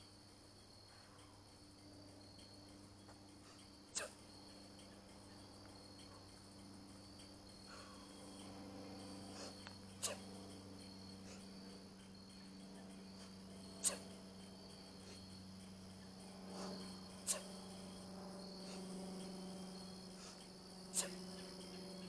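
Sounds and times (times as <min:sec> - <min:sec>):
crickets chirping: 0:00.0 - 0:22.0
low even hum: 0:00.0 - 0:22.0.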